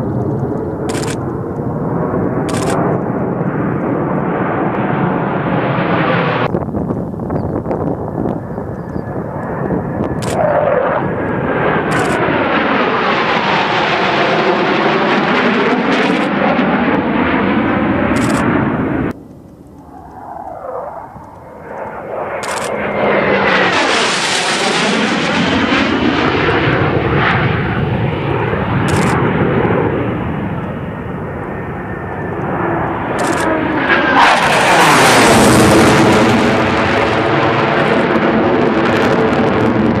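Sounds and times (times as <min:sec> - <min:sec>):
jet passing low: 0:00.0 - 0:40.0.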